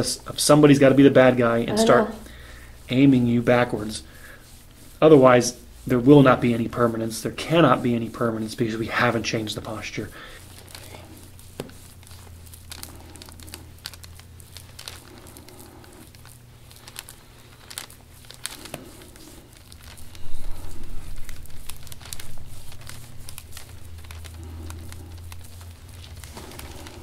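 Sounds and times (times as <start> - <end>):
rustling and crinkling: 0.0 - 27.0
steady low hum: 0.0 - 27.0.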